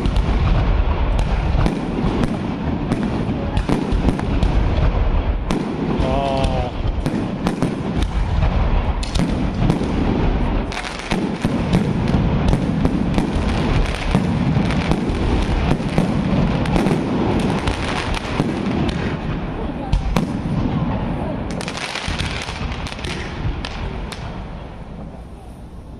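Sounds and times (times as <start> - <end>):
fireworks bangs: 0.0 - 25.4.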